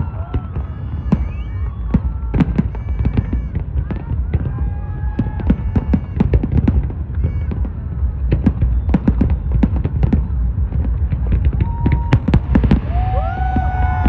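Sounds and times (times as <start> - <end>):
firework whistling tone: 0.0 - 14.0
fireworks bangs and crackles: 0.0 - 14.0
steady low rumble: 0.0 - 14.0.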